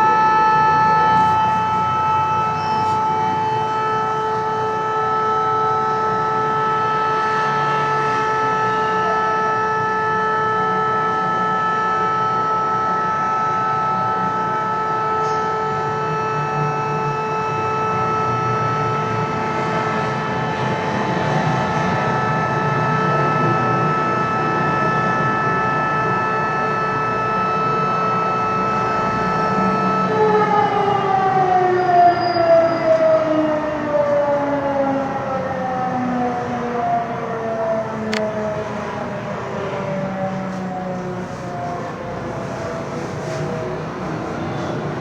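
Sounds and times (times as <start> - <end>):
air-raid siren steady tone: 0.0 - 45.0.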